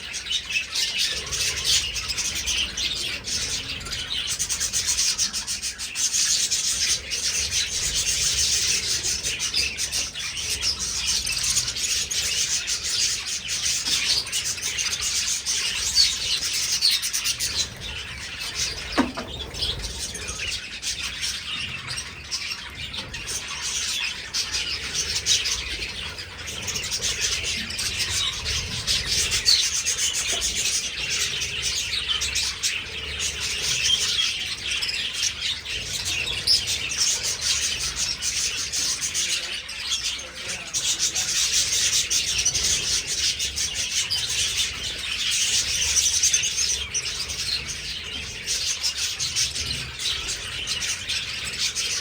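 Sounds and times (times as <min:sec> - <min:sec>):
budgerigars chattering and chirping: 0:00.0 - 0:52.0.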